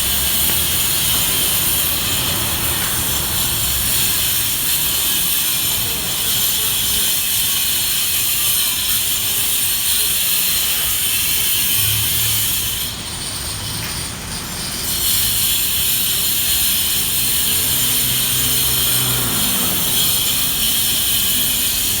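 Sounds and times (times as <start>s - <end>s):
electric grinder grinding: 0.0s - 22.0s.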